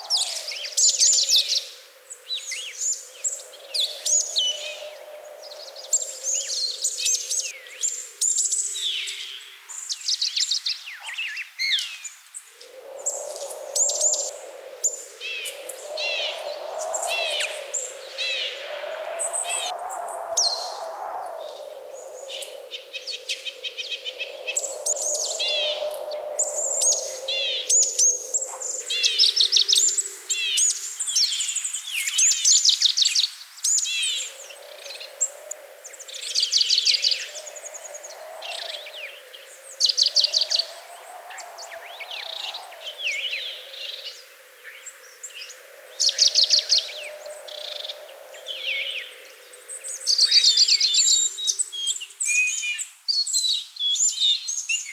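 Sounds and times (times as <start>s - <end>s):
songbirds singing: 0.0s - 54.9s.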